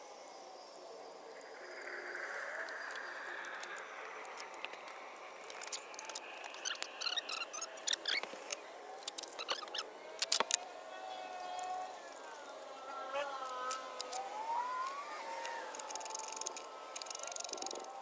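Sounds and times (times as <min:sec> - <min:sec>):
distant siren wailing: 0:00.0 - 0:18.0.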